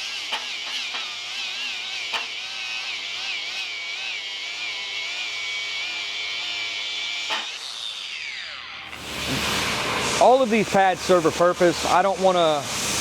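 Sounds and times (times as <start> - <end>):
angle grinder grinding a weld: 0.0 - 13.0.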